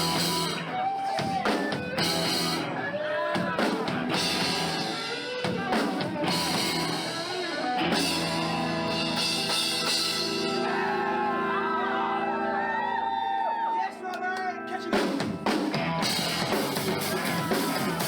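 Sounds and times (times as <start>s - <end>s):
rock band playing live: 0.0s - 13.4s, 14.0s - 18.0s.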